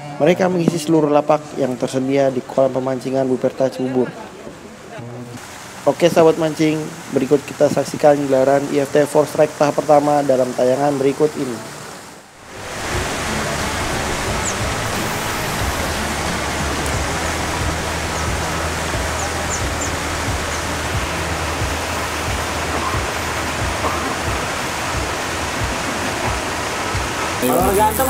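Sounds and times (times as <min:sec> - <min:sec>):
churning splashing pond water: 0:04.5 - 0:28.0.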